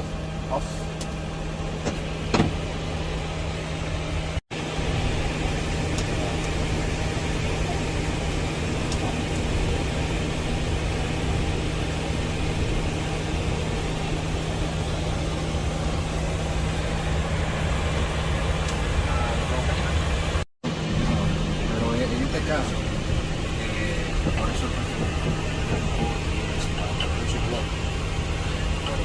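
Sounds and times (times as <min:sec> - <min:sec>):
low rumble: 0:00.0 - 0:29.0
steady hum: 0:00.0 - 0:29.0.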